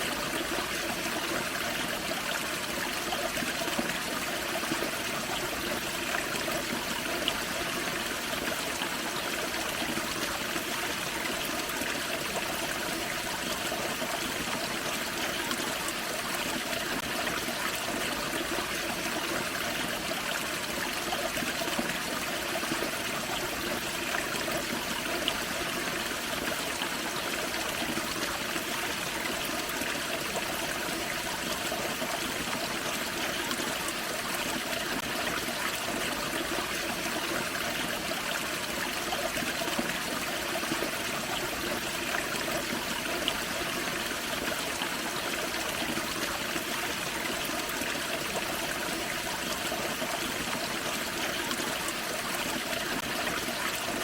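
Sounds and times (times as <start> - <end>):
small waterfall running: 0.0 - 54.0.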